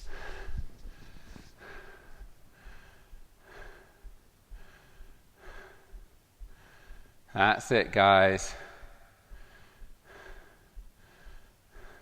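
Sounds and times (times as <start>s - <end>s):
man breathing hard: 0.0s - 7.3s, 8.4s - 12.0s.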